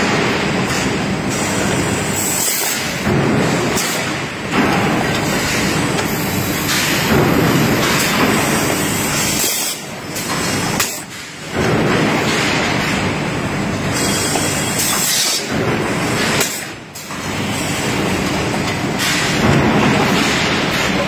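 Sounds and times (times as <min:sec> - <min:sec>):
factory machinery running: 0:00.0 - 0:21.0.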